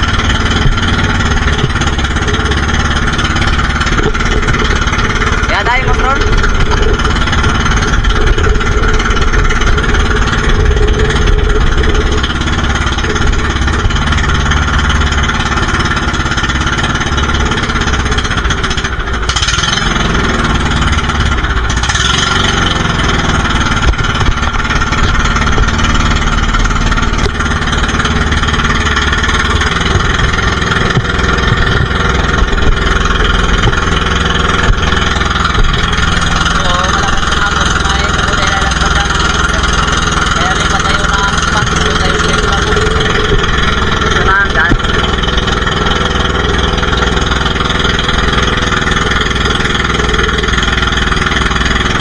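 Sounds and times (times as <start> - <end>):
boat engine running: 0.0 - 52.0
waves splashing against hull: 0.0 - 52.0.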